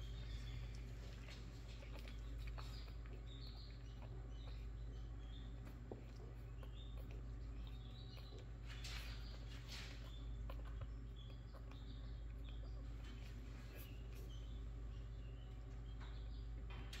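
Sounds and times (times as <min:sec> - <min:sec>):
low steady hum: 0:00.0 - 0:17.0
puppies squeaking: 0:00.0 - 0:17.0.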